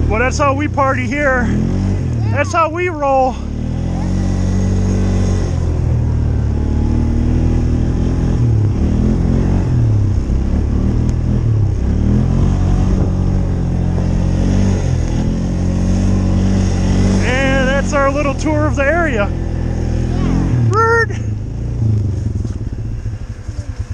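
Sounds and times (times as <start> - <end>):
small engine revving in snow: 0.0 - 23.9.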